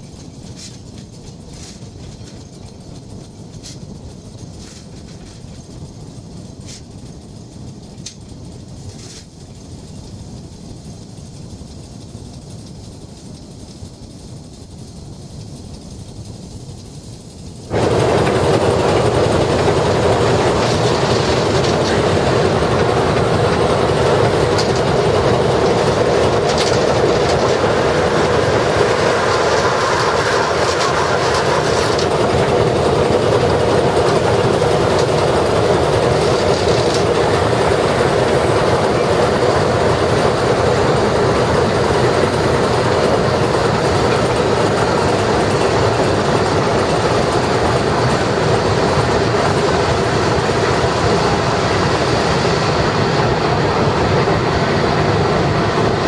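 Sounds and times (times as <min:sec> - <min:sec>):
steam locomotive engine din: 0:00.0 - 0:56.0
wheels on rails: 0:00.0 - 0:56.0.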